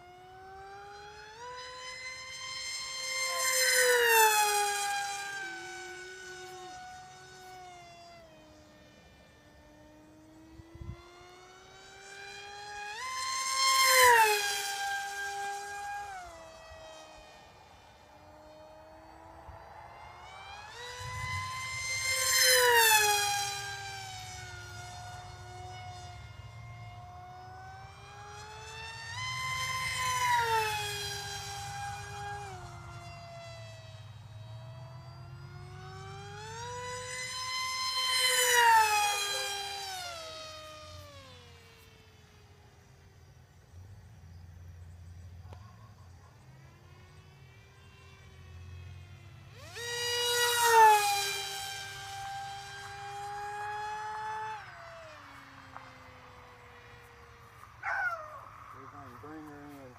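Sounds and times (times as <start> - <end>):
model jet motor whine: 0.0 - 59.9.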